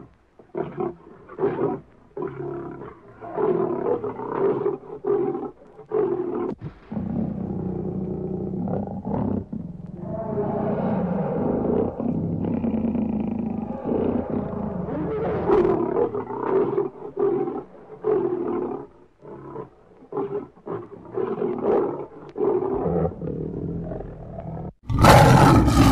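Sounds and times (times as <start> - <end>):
lion roaring: 0.0 - 25.9.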